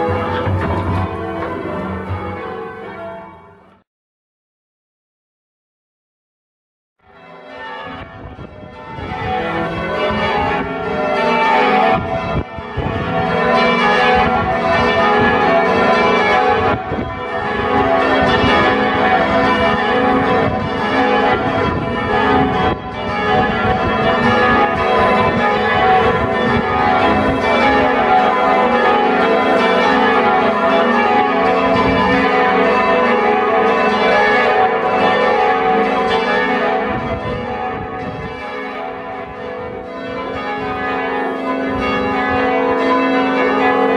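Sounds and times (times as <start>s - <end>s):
church bells ringing: 0.0s - 3.8s, 7.1s - 43.9s.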